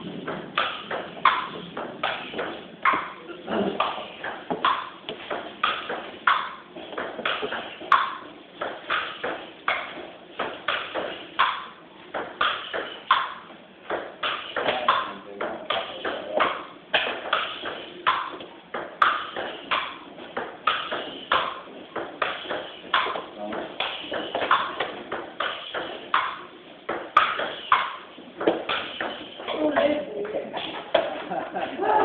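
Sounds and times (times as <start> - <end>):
table tennis ball hits: 0.0 - 31.3.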